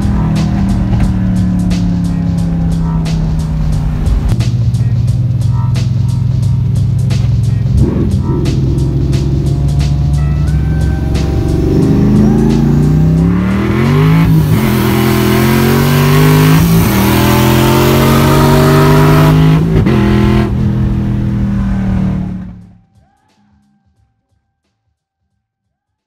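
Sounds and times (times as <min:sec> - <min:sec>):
car engine accelerating through gears: 0:00.0 - 0:22.7
music: 0:00.0 - 0:26.0.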